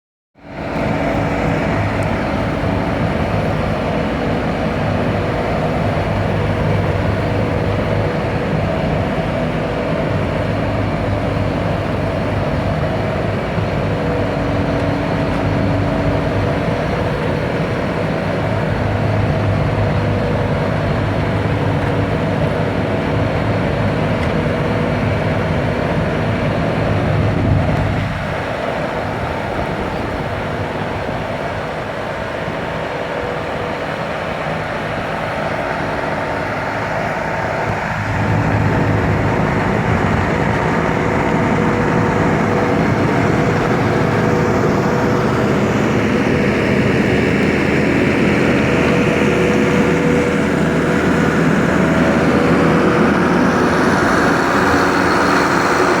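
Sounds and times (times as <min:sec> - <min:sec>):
loader diesel engine working: 0:00.4 - 0:56.0.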